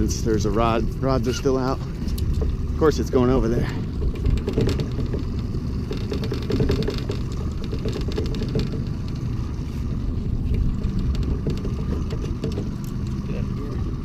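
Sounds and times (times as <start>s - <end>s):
outboard motor running: 0.0s - 14.0s
water: 0.0s - 14.0s.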